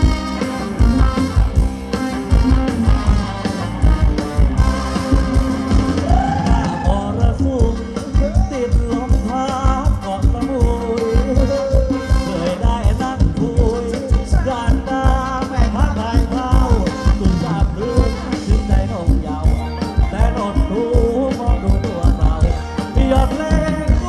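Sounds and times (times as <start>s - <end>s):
band playing dance music: 0.0s - 24.0s.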